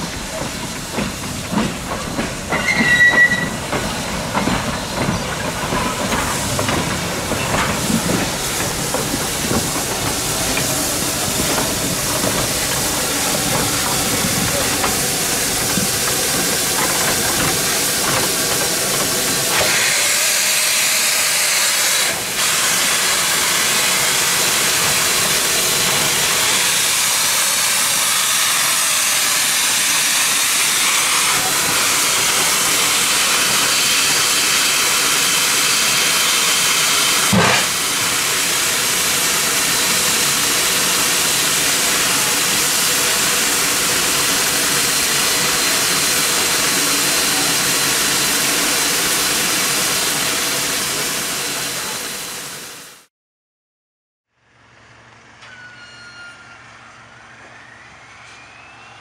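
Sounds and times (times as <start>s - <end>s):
steam hissing: 0.0s - 53.0s.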